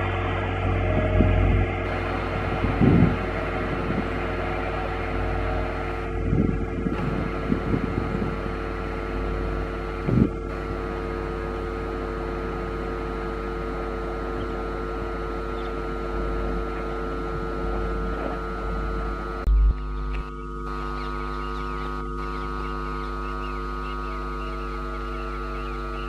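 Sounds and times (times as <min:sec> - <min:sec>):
droning hum: 0:00.0 - 0:26.0.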